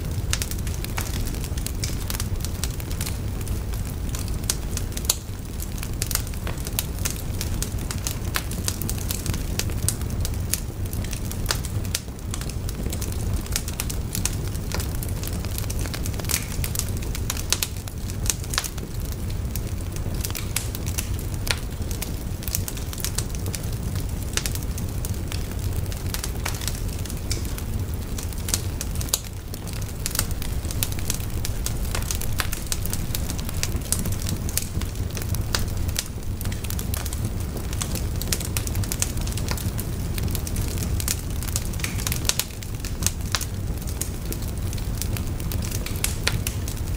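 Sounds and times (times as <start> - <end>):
bonfire crackling: 0.0 - 46.9.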